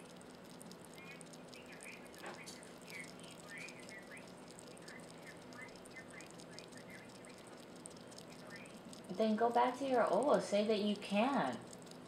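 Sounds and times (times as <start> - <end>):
small animal licking and chewing: 0.0 - 12.0
steady low hum: 0.0 - 12.0.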